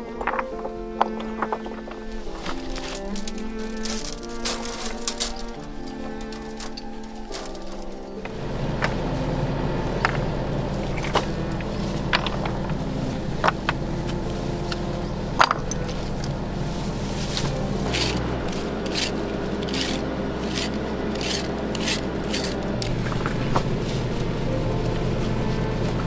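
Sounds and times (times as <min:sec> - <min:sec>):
scraping and rubbing strokes: 0:00.2 - 0:26.0
steady low hum: 0:01.3 - 0:26.0.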